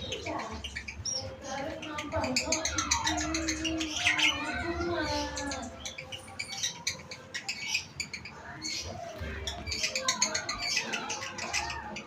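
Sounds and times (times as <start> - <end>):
bird shrill chirps and clicks: 0.0 - 12.0.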